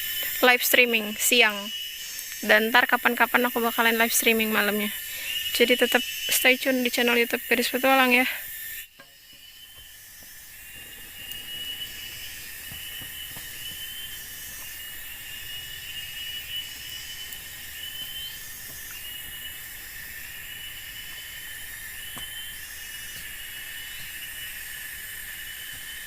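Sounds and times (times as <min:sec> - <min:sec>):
insect chirring: 0:00.0 - 0:26.0
insect high drone: 0:00.0 - 0:26.0.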